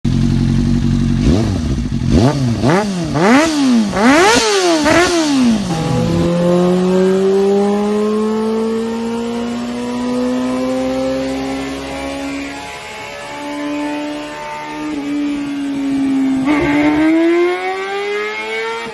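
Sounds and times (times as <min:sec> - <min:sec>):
motorcycle engine revving: 0:00.1 - 0:18.9
engine under load revs climbing: 0:01.2 - 0:18.9.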